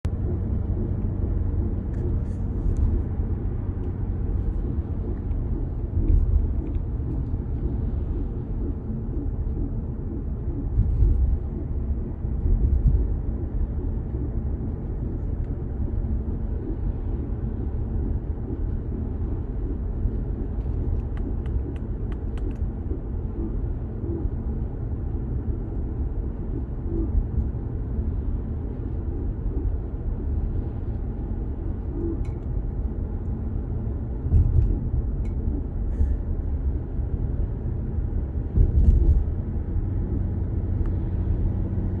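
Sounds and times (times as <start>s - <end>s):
diesel engine grinding rumble: 0.0s - 42.0s.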